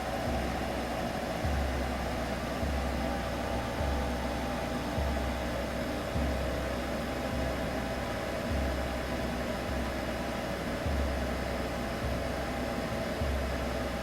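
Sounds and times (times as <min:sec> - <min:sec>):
low pulsing hum: 0:00.0 - 0:14.0
white noise hiss: 0:00.0 - 0:14.0.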